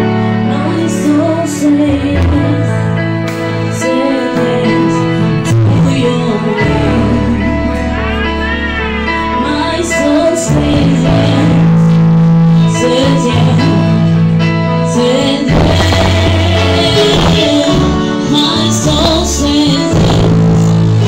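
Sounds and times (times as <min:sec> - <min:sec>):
woman singing into a microphone: 0:00.0 - 0:08.4, 0:09.2 - 0:21.0
band playing bass and guitar: 0:00.0 - 0:21.0.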